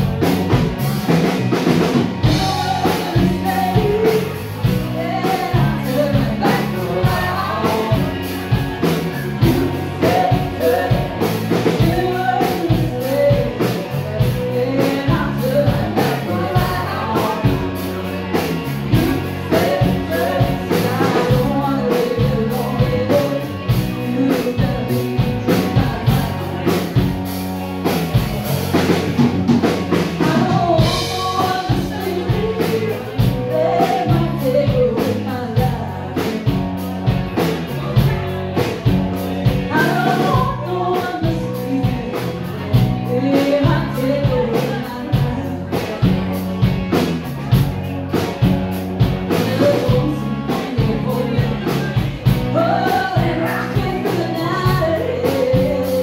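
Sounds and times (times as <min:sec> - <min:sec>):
live rock band playing: 0:00.0 - 0:56.0
woman singing lead vocal: 0:01.6 - 0:27.0, 0:29.9 - 0:38.1, 0:39.2 - 0:46.4, 0:49.3 - 0:56.0.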